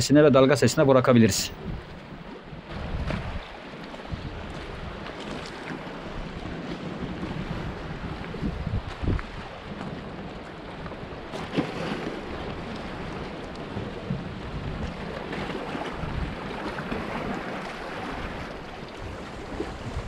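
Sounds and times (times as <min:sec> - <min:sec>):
wind rumbling on microphone: 0:01.4 - 0:20.0
sea waves splashing against rocks: 0:01.6 - 0:20.0.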